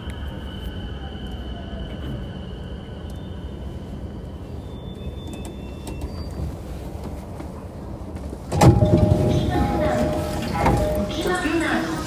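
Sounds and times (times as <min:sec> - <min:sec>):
train doors opening rush: 0:00.0 - 0:12.0
train low rumble: 0:00.0 - 0:12.0.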